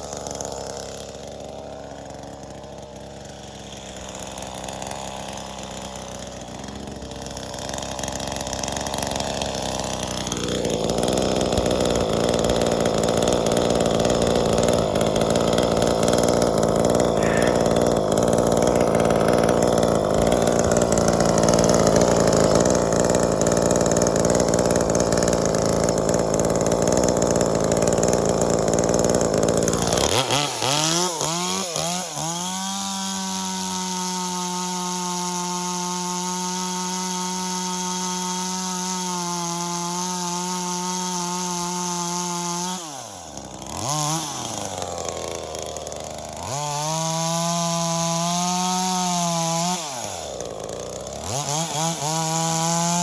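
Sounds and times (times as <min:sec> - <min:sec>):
chainsaw cutting and revving: 0:00.0 - 0:53.0.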